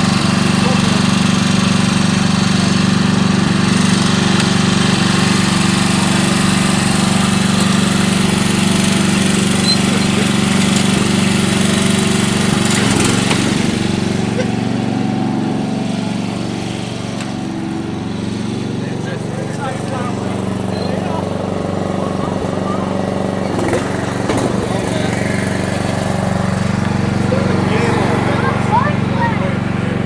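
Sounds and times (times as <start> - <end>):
riding mower engine running: 0.0 - 30.0.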